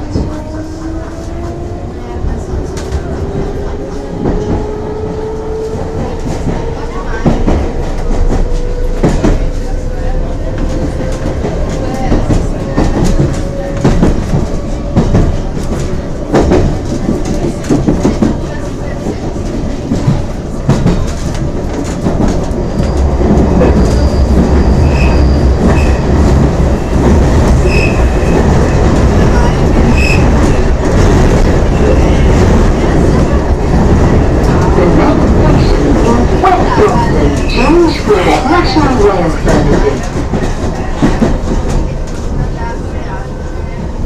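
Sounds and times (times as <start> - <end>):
train wheels clicking on track: 0.0 - 43.8
train rumble: 0.0 - 44.0.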